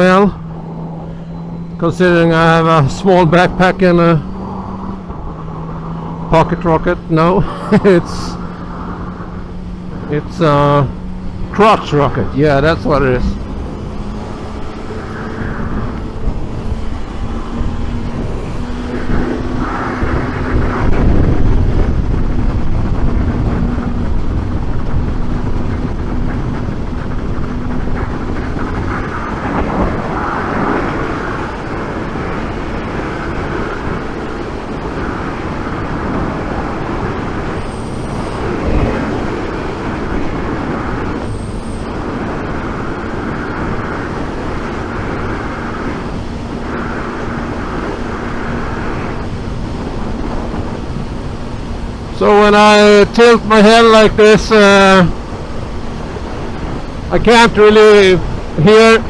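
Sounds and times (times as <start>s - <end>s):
motorcycle engine drone: 0.0s - 59.0s
wind rushing inside helmet: 0.0s - 59.0s.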